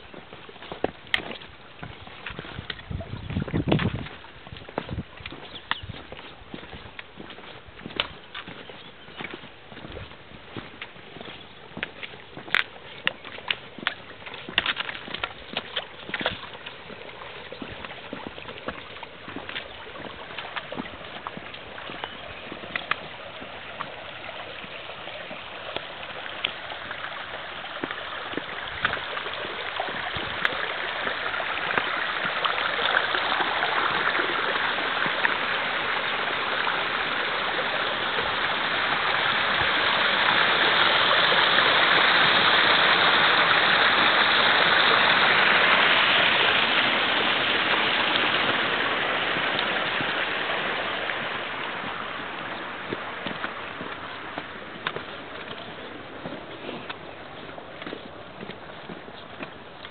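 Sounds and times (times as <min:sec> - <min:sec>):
footsteps on stone: 0:00.0 - 0:35.6, 0:45.6 - 0:59.9
stream flowing over rocks: 0:00.0 - 0:59.9.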